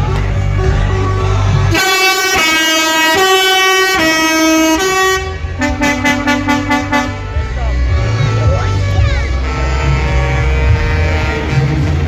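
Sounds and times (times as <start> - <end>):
musical air horn tune: 0.4 - 12.0
low horn note: 0.6 - 12.0.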